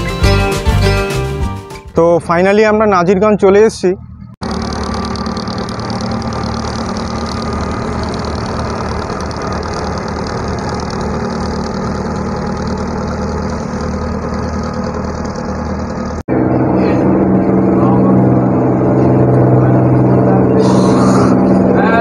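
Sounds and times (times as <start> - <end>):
wind: 2.0 - 22.0
boat engine droning: 2.4 - 22.0.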